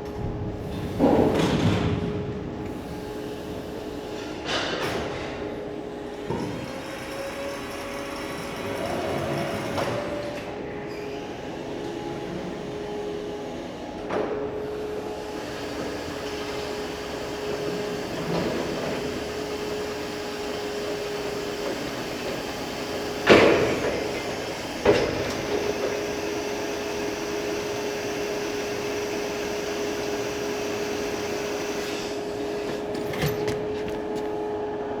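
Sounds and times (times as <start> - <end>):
electric truck whine: 5.6 - 35.0.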